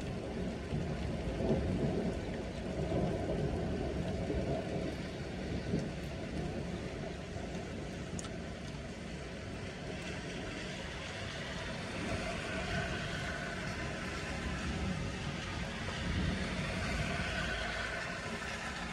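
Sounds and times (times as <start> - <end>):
distant thunder rumble: 0.0 - 18.9
steady rain: 0.0 - 18.9.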